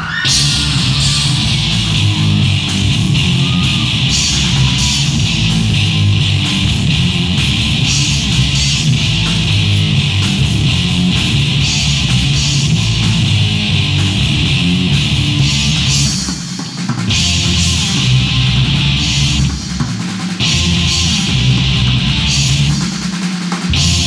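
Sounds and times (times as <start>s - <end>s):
drums: 0.0s - 24.0s
bass guitar: 0.1s - 16.4s, 17.1s - 19.8s, 20.4s - 23.0s, 23.7s - 24.0s.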